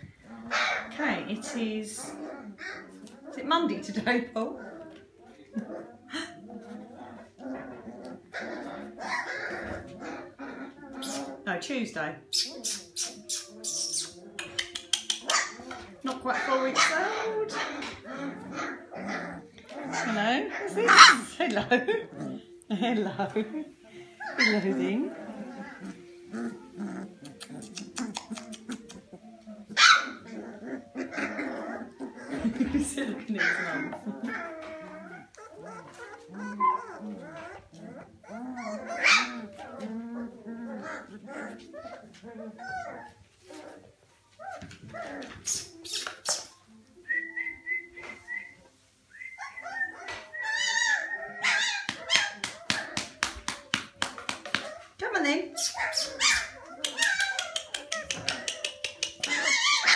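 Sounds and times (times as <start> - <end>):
puppies making short vocal noises: 0.0 - 11.5, 12.2 - 21.3, 23.7 - 59.9.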